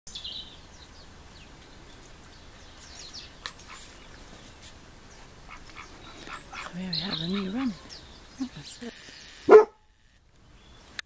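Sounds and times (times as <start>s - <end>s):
bird chirps: 0.1s - 9.7s.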